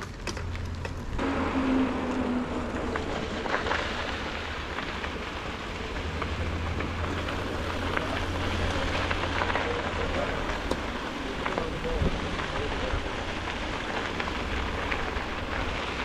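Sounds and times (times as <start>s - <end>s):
bike tyres crunching on dirt: 0.0s - 16.0s
wind rumble on microphone: 0.0s - 16.0s.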